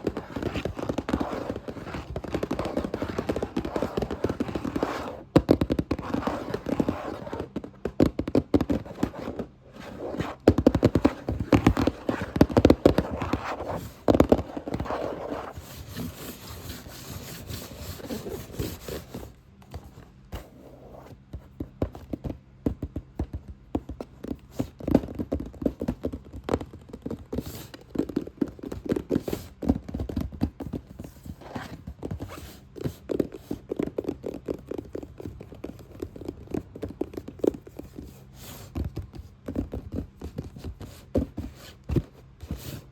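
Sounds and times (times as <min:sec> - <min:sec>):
fast tapping and scratching on a box: 0:00.0 - 0:42.9.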